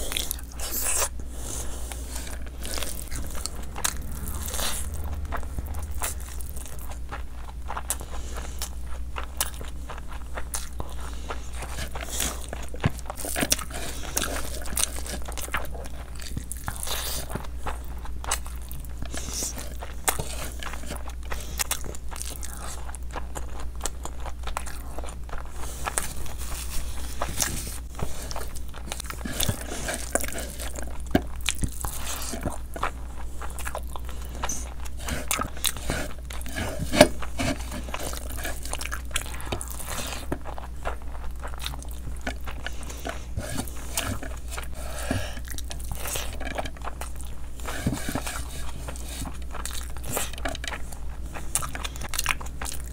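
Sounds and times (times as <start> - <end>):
chewing with wet mouth smacks: 0.0 - 52.9.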